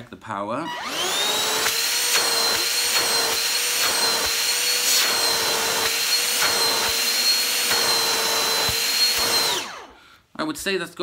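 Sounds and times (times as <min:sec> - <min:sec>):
handheld vacuum cleaner running: 0:00.7 - 0:10.0.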